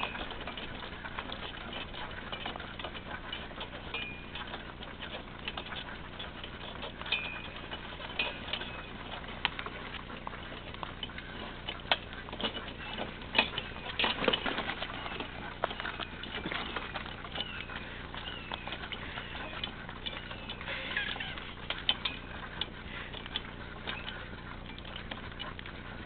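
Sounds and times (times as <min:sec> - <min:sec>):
hooves and wheels crunching gravel: 0:00.0 - 0:26.0.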